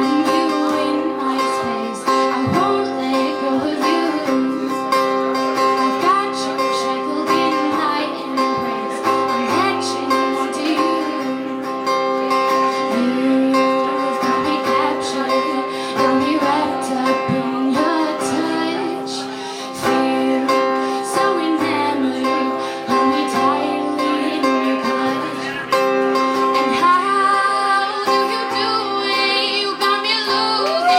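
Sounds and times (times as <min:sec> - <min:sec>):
woman singing: 0:00.0 - 0:25.8, 0:26.4 - 0:30.9
strummed acoustic guitar: 0:00.0 - 0:30.9.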